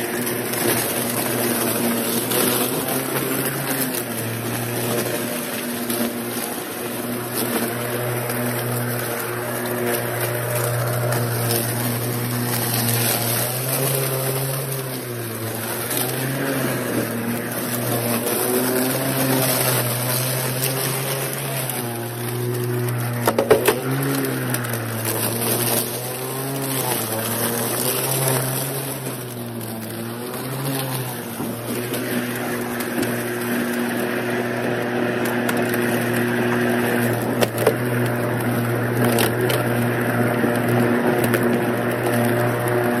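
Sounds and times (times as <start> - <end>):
electric lawn mower running: 0.0 - 43.0.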